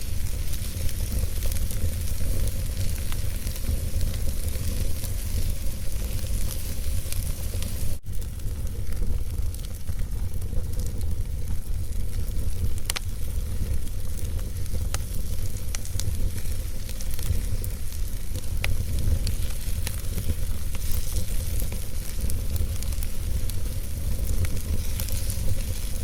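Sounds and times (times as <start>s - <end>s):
fireplace fire crackling: 0.0s - 26.0s.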